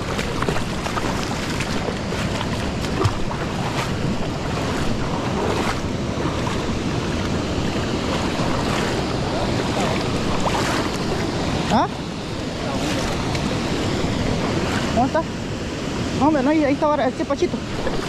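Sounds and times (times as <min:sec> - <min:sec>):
river current rushing past rocks: 0:00.0 - 0:18.0
wind buffeting microphone: 0:00.0 - 0:18.0.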